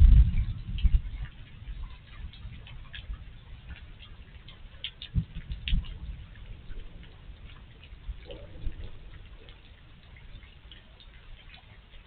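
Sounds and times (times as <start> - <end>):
rain dripping: 0.0 - 12.0
steady low background noise: 0.0 - 12.0.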